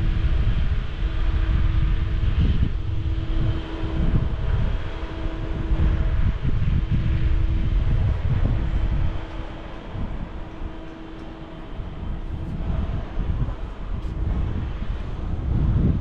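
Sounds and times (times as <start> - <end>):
faint steady hum: 0.0 - 16.0
low outdoor rumble: 0.0 - 16.0.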